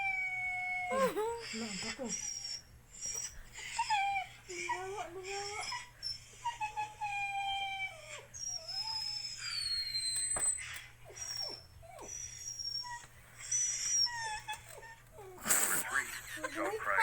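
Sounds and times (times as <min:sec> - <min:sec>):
dog whining and whimpering: 0:00.0 - 0:17.0.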